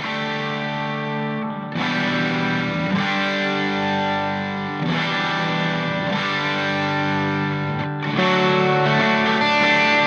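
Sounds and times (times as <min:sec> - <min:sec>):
distorted electric guitar chords: 0:00.0 - 0:10.0.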